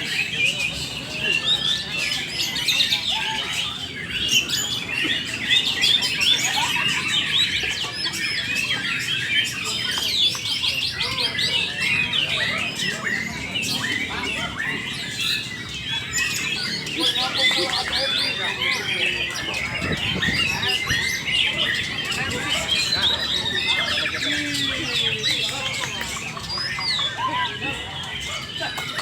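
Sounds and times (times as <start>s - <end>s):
birds singing in chorus: 0.0s - 29.0s.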